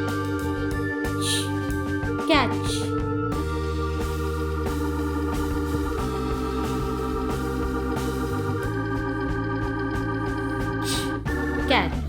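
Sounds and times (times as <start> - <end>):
electronic organ chords: 0.0 - 12.0.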